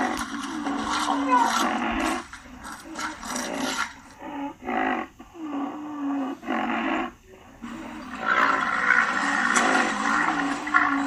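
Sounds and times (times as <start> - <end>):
rhinoceros grunting: 0.0 - 11.0.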